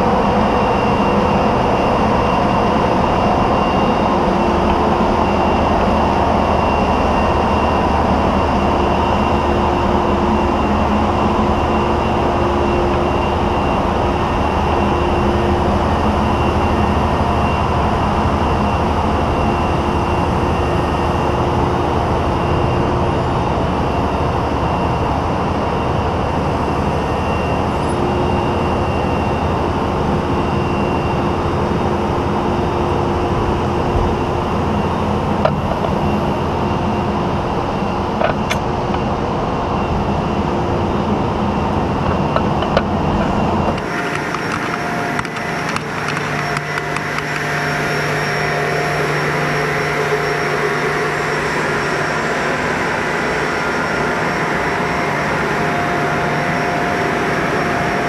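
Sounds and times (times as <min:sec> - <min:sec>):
truck engine and hydraulics humming: 0:00.0 - 0:58.0.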